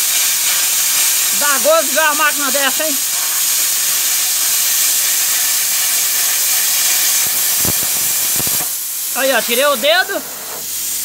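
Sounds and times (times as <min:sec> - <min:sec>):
plasma cutter hissing: 0:00.0 - 0:11.0.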